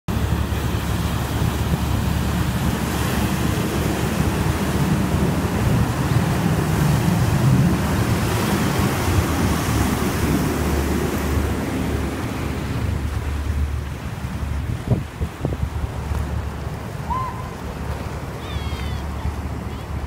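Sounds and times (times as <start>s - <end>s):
floodwater rushing: 0.1s - 20.0s
wind buffeting microphone: 0.1s - 20.0s.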